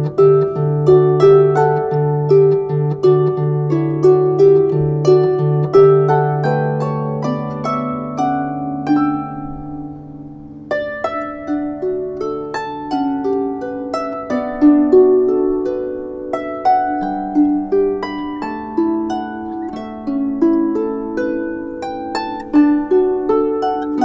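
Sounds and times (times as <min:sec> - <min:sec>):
harp playing a slow hymn: 0:00.0 - 0:24.0.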